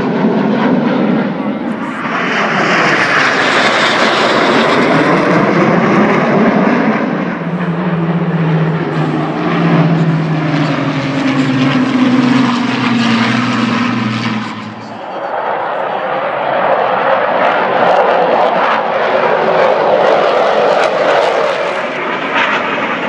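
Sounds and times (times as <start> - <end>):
aircraft flying past: 0.0 - 23.0.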